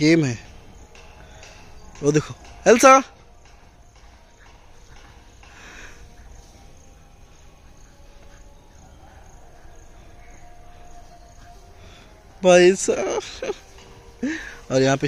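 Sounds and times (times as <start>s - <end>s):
insects chirping faintly: 0.0s - 15.0s.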